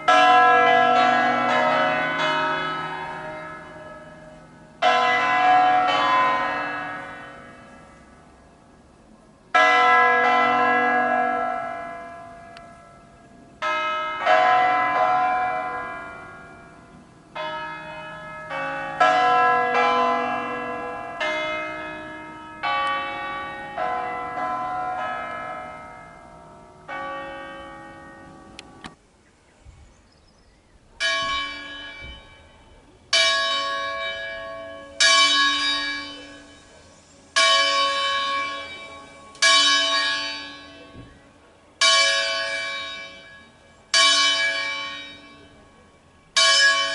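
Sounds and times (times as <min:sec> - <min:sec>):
large church bells ringing: 0:00.0 - 0:29.0, 0:31.0 - 0:46.9.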